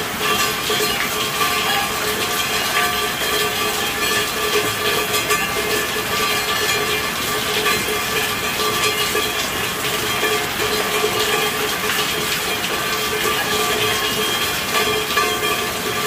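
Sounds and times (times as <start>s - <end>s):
steady rain patter: 0.0s - 16.0s.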